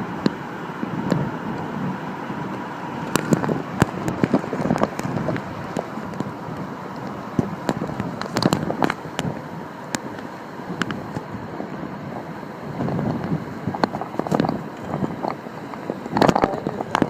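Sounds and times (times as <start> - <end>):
sea washing on shore: 0.0 - 17.0
sharp crackles and clicks: 2.5 - 17.0.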